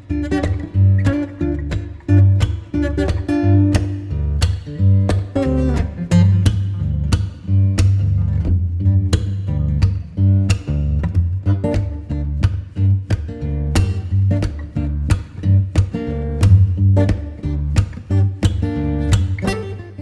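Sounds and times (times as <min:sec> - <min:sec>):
steady bass line: 0:00.0 - 0:19.5
guitar strumming and plucking: 0:00.0 - 0:20.0.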